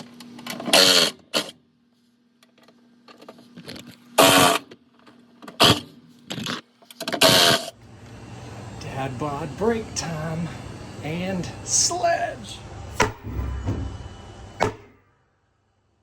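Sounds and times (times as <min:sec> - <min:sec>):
faint steady hum: 0:01.3 - 0:16.0.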